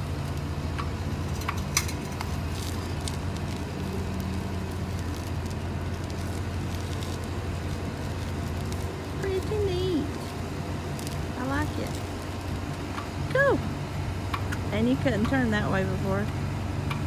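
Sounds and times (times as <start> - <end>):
steady low hum: 0.0 - 17.0
wheelchair tyres crackling on asphalt: 0.0 - 17.0.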